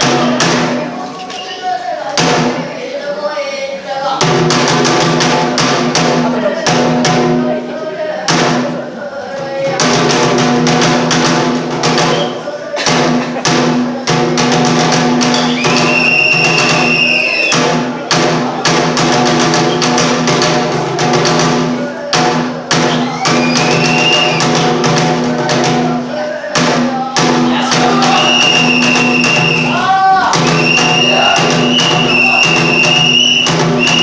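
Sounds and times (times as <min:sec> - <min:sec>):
rapid taiko drum strokes: 0:00.0 - 0:01.1, 0:02.0 - 0:03.0, 0:04.0 - 0:34.0.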